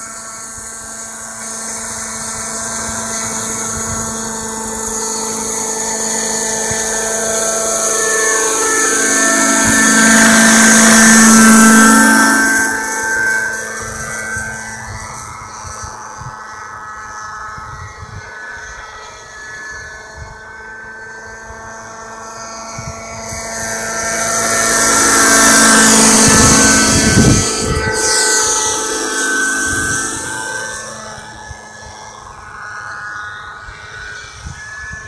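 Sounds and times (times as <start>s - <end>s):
model helicopter engine and rotor whine: 0.0s - 35.0s.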